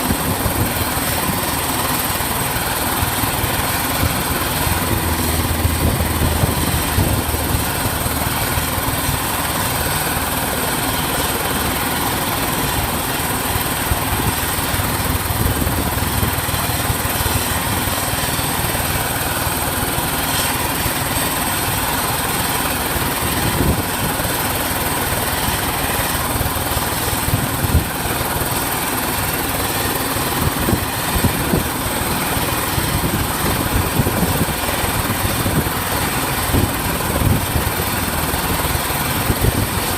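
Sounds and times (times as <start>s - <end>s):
constant high whine: 0.0s - 39.9s
helicopter rotor and engine: 0.0s - 39.9s.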